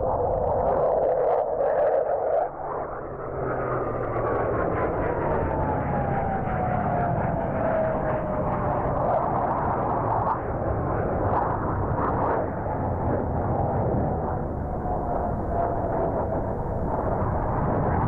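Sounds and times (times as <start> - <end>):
jet flyby rumble: 0.0 - 18.0.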